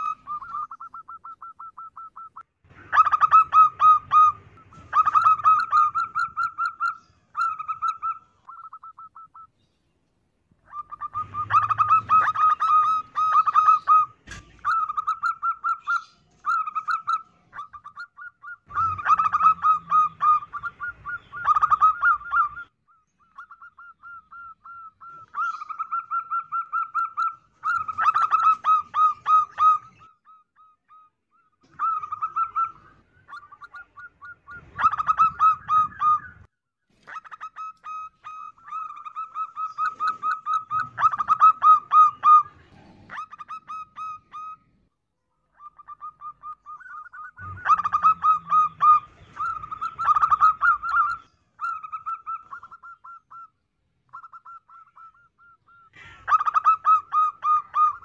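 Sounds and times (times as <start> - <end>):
dove trilled cooing: 0.0 - 9.6, 10.6 - 36.5, 37.1 - 44.8, 45.5 - 58.0.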